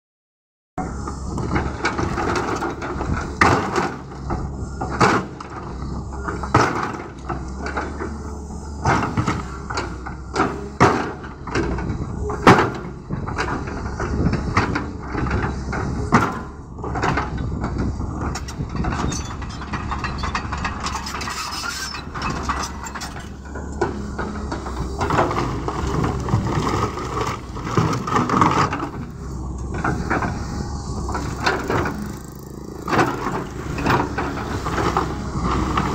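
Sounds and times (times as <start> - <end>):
excavator diesel engine running: 0.8 - 35.9.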